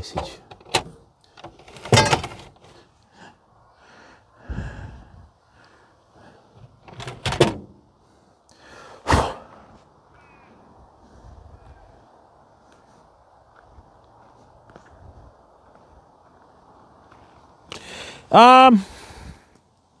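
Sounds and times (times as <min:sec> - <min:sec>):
faint background noise: 0:00.0 - 0:20.0.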